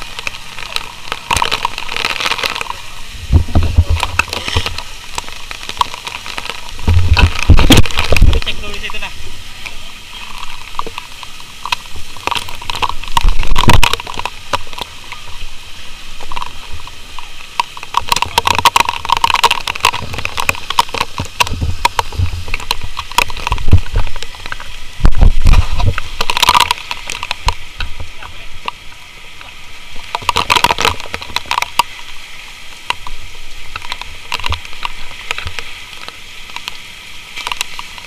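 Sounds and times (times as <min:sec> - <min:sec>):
hose water spraying against house: 0:00.0 - 0:38.0.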